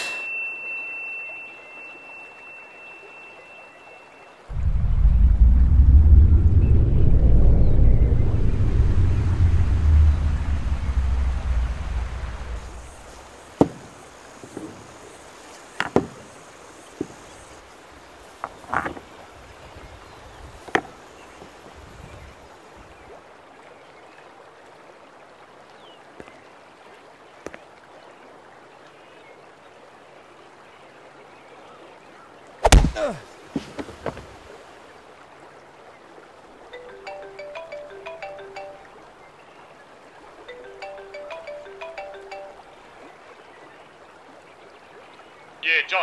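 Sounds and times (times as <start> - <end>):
flowing river water: 0.0 - 4.6, 9.8 - 46.0.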